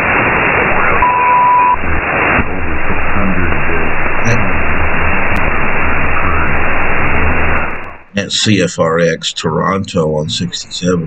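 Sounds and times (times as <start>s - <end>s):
radio static hiss: 0.0s - 11.0s
faint garbled voice: 1.8s - 11.0s.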